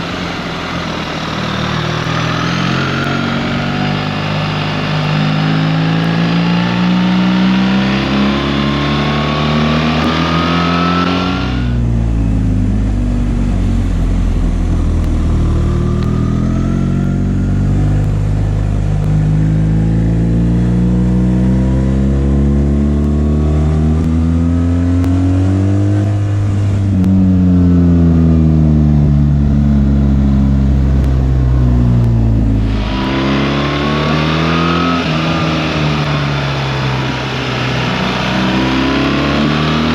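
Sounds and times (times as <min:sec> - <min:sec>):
motorcycle engine under way: 0:00.0 - 0:39.9.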